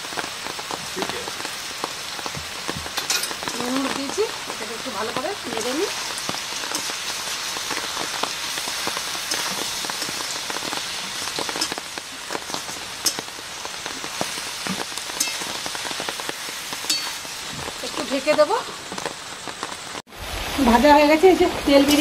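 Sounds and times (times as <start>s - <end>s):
food frying in a pan: 0.0s - 22.0s
rain falling: 0.0s - 22.0s.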